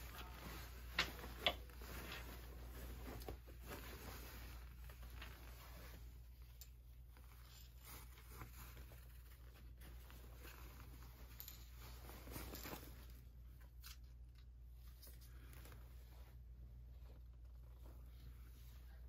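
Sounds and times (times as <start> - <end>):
light handling rustles: 0.0 - 19.0
low room tone hum: 0.0 - 19.0.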